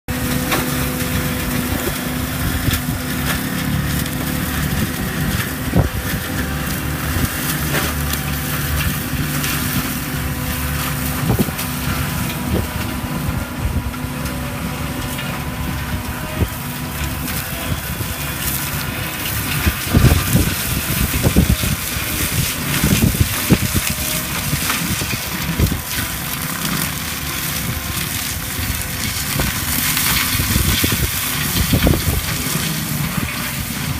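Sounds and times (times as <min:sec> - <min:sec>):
diesel engine and mulching drum: 0:00.1 - 0:33.9.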